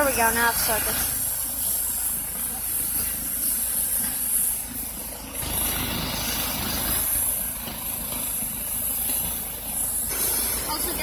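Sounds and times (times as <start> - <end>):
engines idling: 0.0 - 11.0
high hiss: 0.0 - 11.0.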